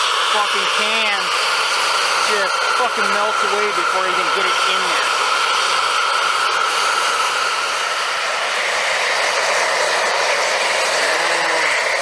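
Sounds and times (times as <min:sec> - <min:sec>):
shop vac blowing air: 0:00.0 - 0:12.0
thin motor whine: 0:00.0 - 0:12.0.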